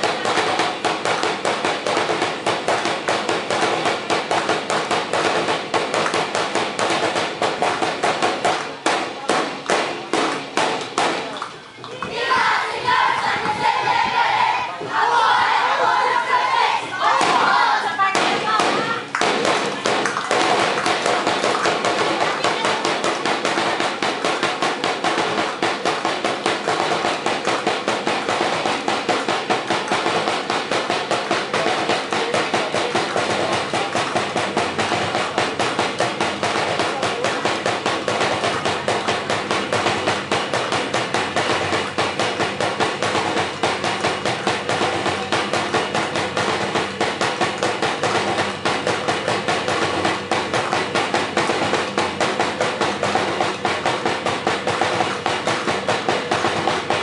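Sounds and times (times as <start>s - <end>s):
percussion playing fast beat: 0.0s - 14.2s, 15.0s - 57.0s.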